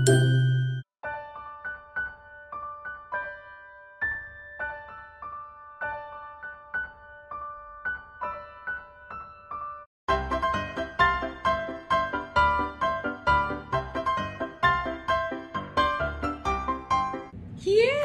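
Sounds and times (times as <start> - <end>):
gentle piano melody: 1.0 - 17.3.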